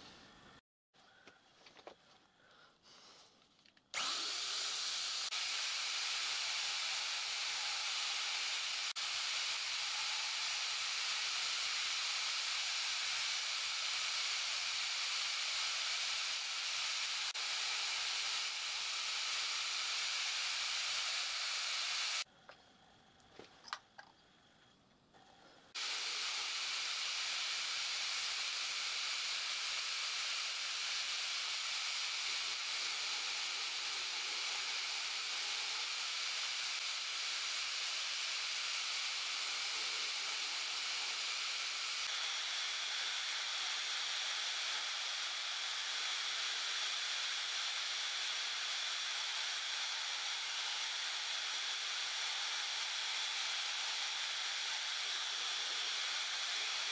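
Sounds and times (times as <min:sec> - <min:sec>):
router motor running: 0:03.9 - 0:22.3, 0:25.7 - 0:56.9.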